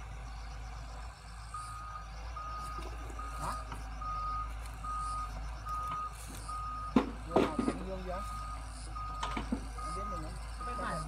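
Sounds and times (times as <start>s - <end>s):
diesel engine running: 0.0s - 11.0s
high-pitched warning alarm beeping: 0.0s - 11.0s.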